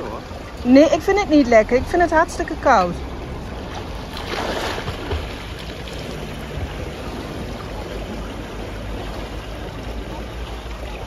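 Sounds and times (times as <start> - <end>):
pool water splashing: 0.0 - 11.0
steady low rumble: 0.2 - 11.0.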